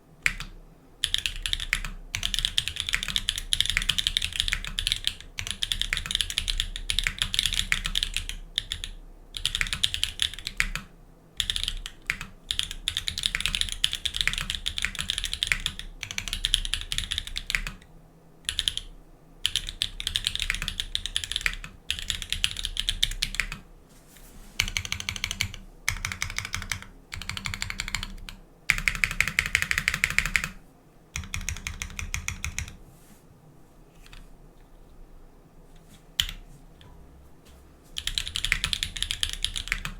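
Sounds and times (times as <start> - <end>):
mechanical keyboard typing: 0.2 - 17.9, 18.5 - 23.6, 24.6 - 30.6, 31.2 - 32.8, 38.0 - 39.9.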